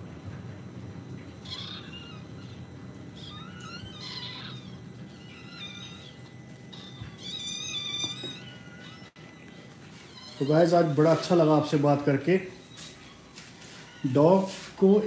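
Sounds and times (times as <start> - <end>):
steady low hum: 0.0 - 15.0
puppies squeaking and whimpering: 1.4 - 15.0.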